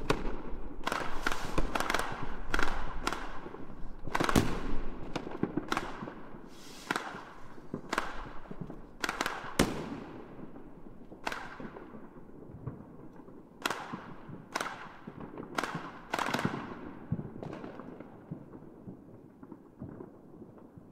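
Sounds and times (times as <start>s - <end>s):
fireworks bangs with rumbling echo: 0.0s - 20.9s.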